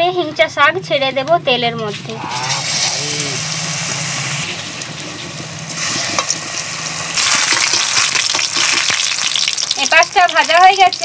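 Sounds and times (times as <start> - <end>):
leaves frying in oil: 2.1 - 11.0.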